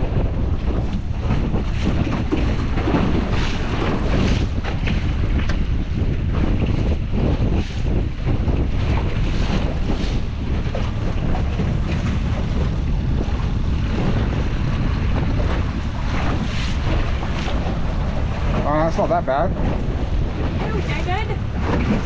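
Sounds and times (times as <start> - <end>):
water splashing against hull: 0.0 - 22.0
wind buffeting microphone: 0.0 - 22.0.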